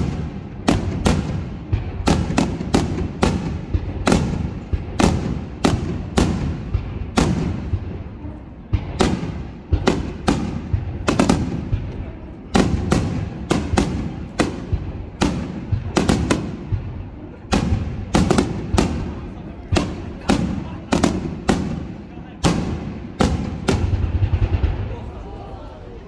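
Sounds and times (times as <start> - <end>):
fireworks bangs: 0.0 - 26.0
low rumbling echo: 0.0 - 26.0.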